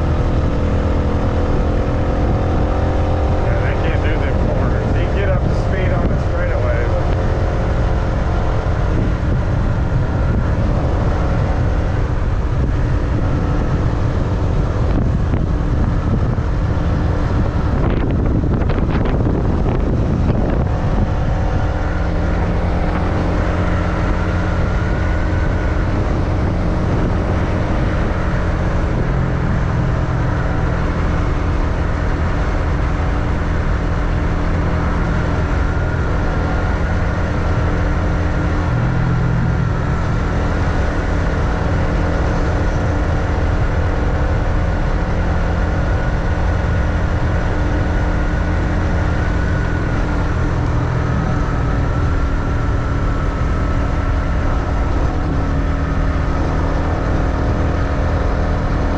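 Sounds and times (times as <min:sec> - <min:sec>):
motorbike engine running: 0:00.0 - 0:58.9
wind rumbling on microphone: 0:00.0 - 0:58.9.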